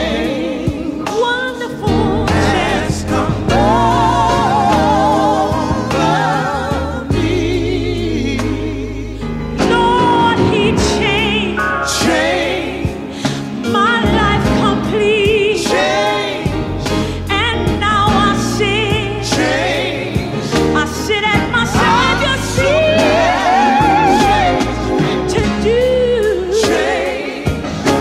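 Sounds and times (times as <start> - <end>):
band accompaniment: 0.0 - 28.0
bass notes: 0.0 - 28.0.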